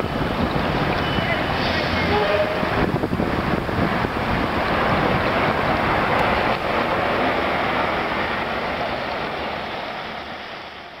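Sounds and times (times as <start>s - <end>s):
water rushing down road: 0.0s - 11.0s.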